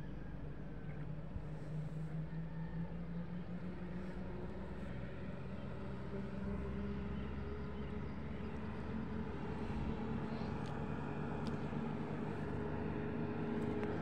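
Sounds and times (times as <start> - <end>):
motorboat engine drone: 0.0 - 14.0.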